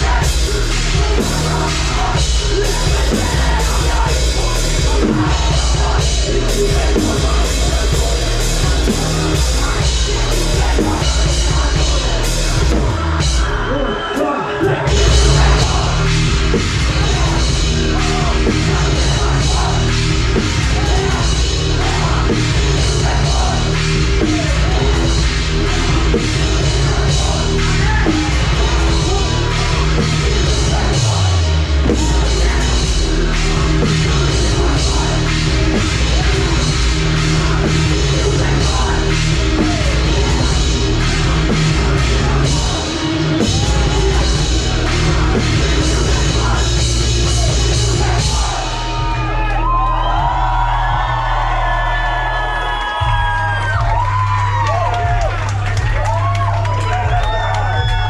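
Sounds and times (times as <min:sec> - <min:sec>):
person singing: 0:00.0 - 0:50.4
heavy rock band playing: 0:00.0 - 0:58.0.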